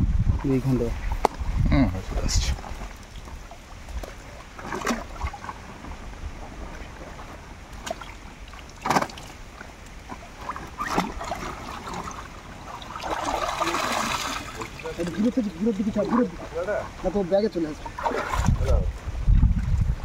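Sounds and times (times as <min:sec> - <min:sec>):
pond water splashing and sloshing: 0:00.4 - 0:20.0.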